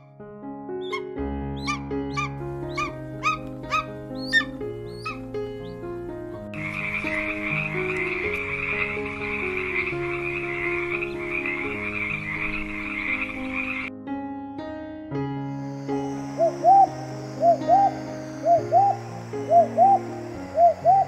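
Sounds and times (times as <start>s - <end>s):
soft background music: 0.0s - 21.0s
frogs croaking: 0.8s - 5.9s, 6.5s - 13.9s, 15.5s - 21.0s.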